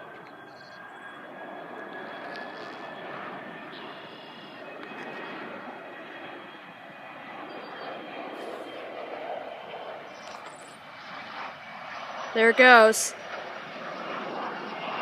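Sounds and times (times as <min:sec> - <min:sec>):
distant jet engines roaring: 0:00.0 - 0:15.0.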